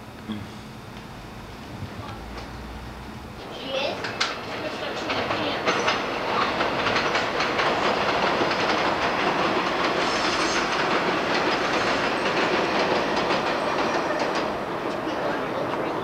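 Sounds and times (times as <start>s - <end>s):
subway train wheels clattering: 1.7s - 16.0s.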